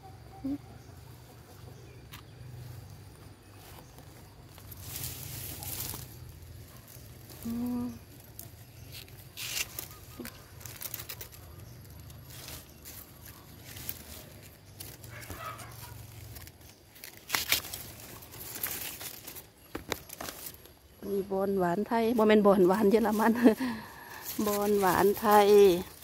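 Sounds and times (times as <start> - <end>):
dry vegetation rustling and crackling: 2.3 - 26.0.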